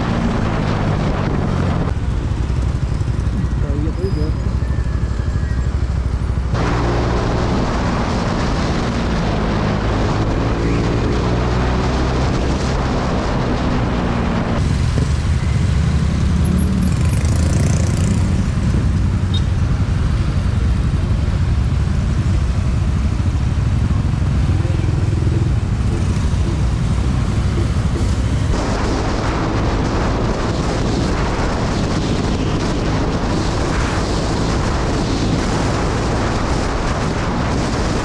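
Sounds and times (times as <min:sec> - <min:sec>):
motorcycle engine accelerating: 0:00.0 - 0:38.0
wind rushing over microphone: 0:00.0 - 0:38.0.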